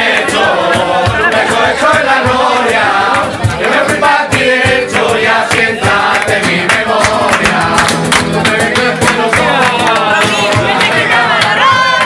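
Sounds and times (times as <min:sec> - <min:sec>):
men singing together: 0:00.0 - 0:11.9
strummed nylon-string guitars: 0:00.0 - 0:12.0.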